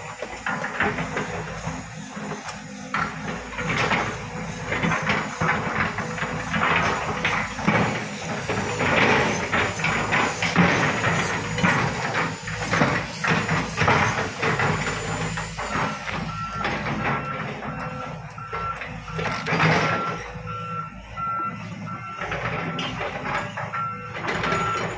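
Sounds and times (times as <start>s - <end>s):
excavator diesel engine under load: 0.0s - 24.9s.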